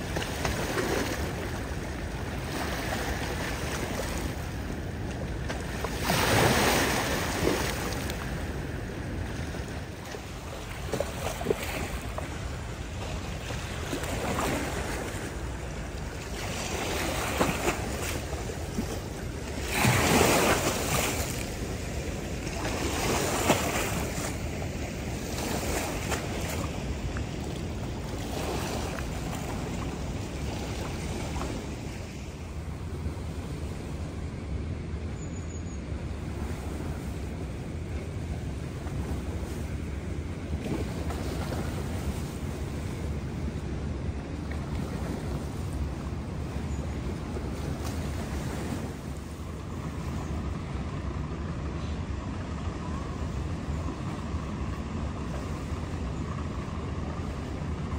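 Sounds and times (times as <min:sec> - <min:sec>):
river water lapping on shore: 0:00.0 - 0:57.9
wind rumble on microphone: 0:00.0 - 0:57.9.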